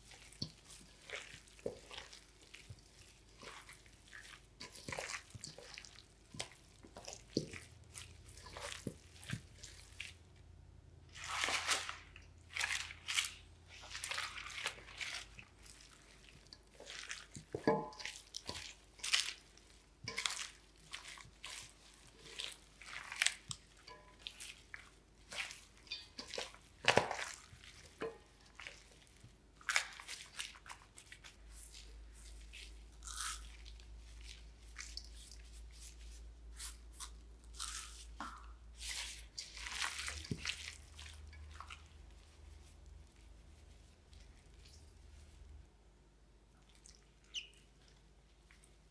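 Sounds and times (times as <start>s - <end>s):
crunching and squelching kimchi: 0.0s - 48.9s.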